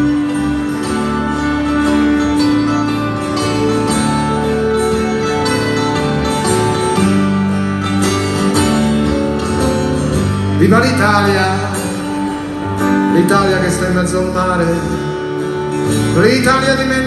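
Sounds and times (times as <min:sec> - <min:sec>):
bass: 0:00.0 - 0:17.0
strummed acoustic guitars: 0:00.0 - 0:17.0.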